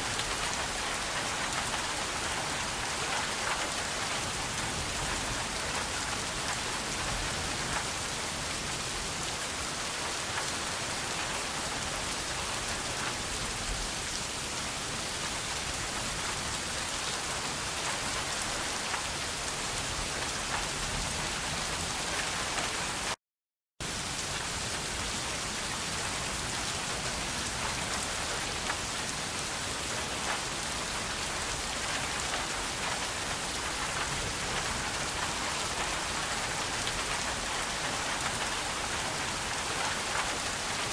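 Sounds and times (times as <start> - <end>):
steady rain falling: 0.0 - 23.2, 23.8 - 40.9.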